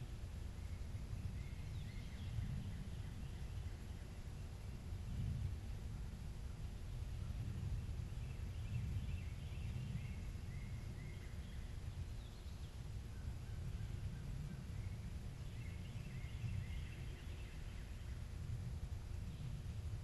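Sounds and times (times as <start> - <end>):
faint bird chirping: 0.0 - 5.4, 6.5 - 20.0
low steady rumble: 0.0 - 20.0.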